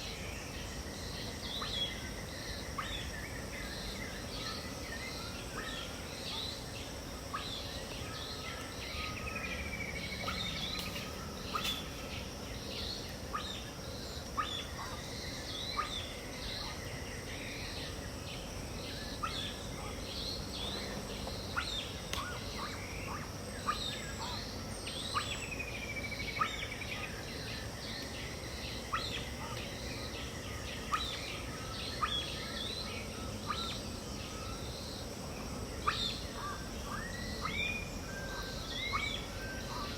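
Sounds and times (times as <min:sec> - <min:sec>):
birds chirping and calling: 0:00.0 - 0:35.1, 0:35.7 - 0:39.9
high hiss of insects: 0:00.0 - 0:39.9.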